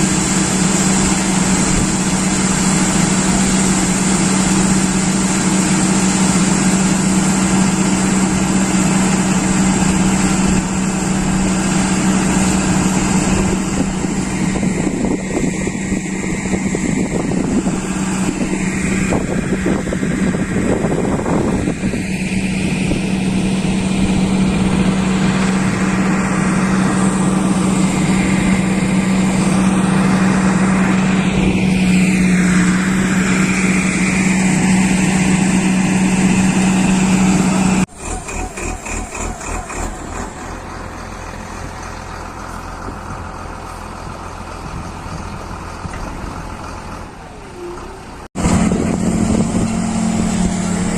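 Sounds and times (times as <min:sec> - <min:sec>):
tractor engine drone: 0:00.0 - 0:50.9.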